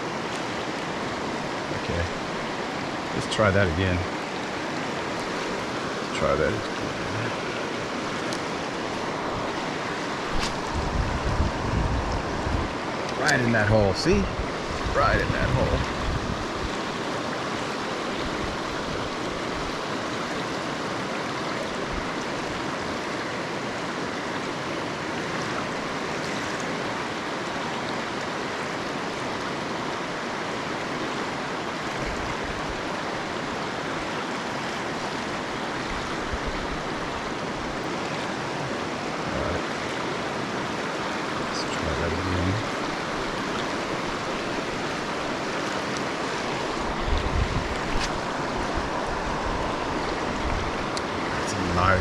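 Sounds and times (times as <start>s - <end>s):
river rushing over rapids: 0.0s - 52.0s.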